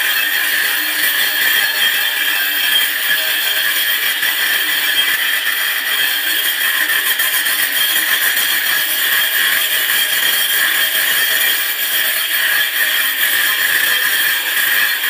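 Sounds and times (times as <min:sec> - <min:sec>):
angle grinder grinding stone: 0:00.0 - 0:15.0.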